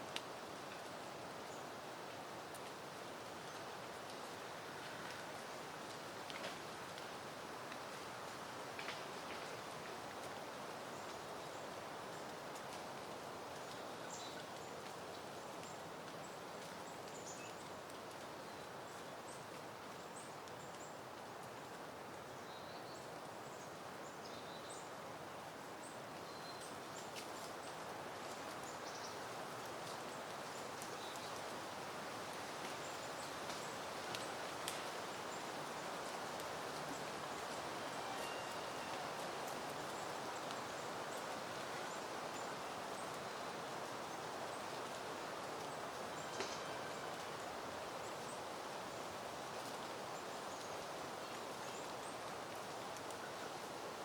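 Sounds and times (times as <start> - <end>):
wind rustling foliage: 0.0 - 54.0.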